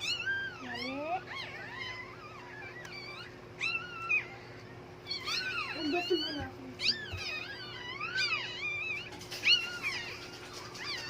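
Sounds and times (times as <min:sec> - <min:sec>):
dog whining and whimpering: 0:00.0 - 0:11.0.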